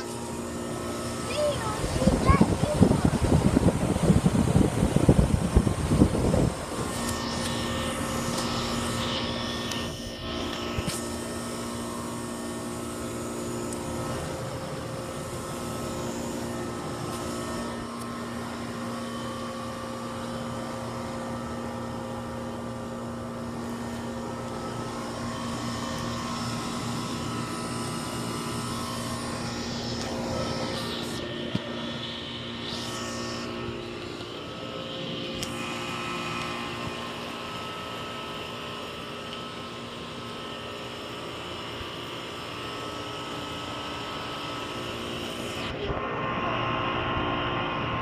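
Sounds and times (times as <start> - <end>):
heat pump humming: 0.0 - 48.0.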